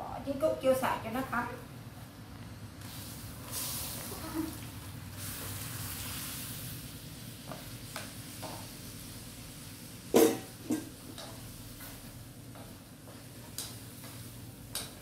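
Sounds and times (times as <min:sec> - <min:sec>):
eggs sizzling in a pan: 0:02.7 - 0:15.0.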